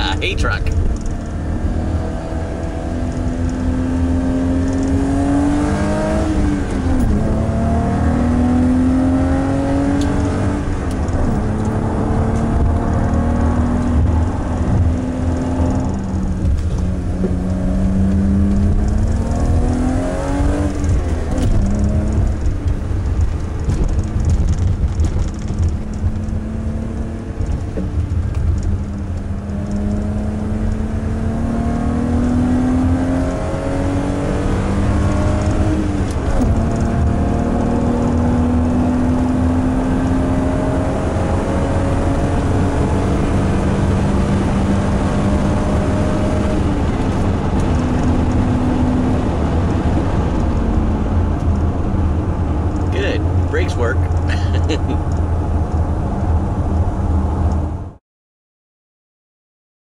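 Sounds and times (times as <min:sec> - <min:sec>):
car engine accelerating: 0:00.0 - 0:58.0
road and tyre rumble: 0:00.0 - 0:58.0.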